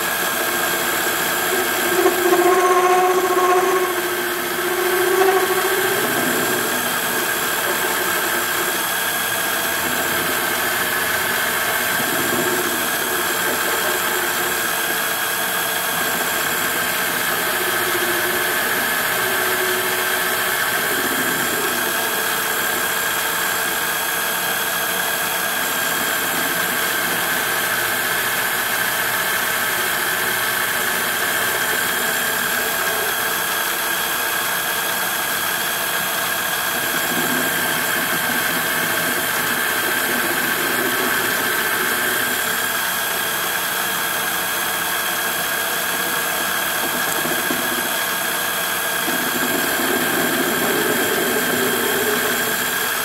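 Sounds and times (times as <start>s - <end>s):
lathe running with high whine: 0.0s - 53.0s.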